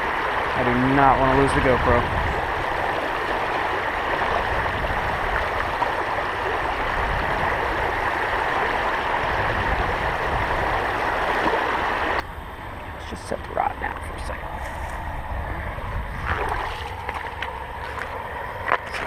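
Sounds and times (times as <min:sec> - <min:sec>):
creek water rushing: 0:00.0 - 0:19.0.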